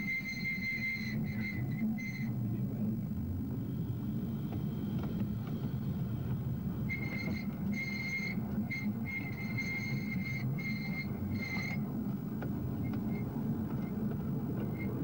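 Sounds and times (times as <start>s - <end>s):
tram low rumble: 0.0s - 15.0s.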